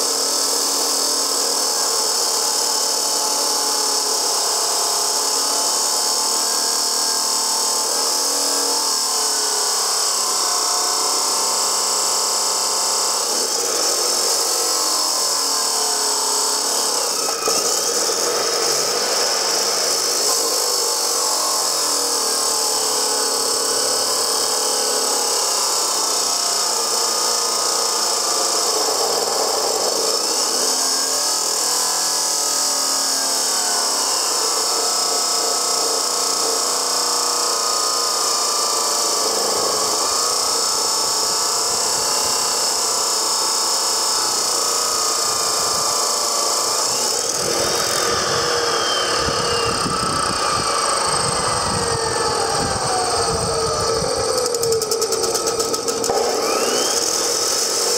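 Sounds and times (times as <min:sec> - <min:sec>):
chop saw grinding steel: 0:00.0 - 0:57.9
motor hum wavering in pitch: 0:00.0 - 0:57.9.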